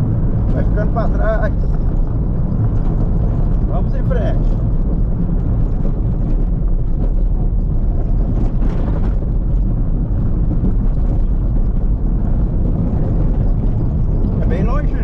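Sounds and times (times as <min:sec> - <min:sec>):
vehicle rumbling on dirt road: 0:00.0 - 0:15.0.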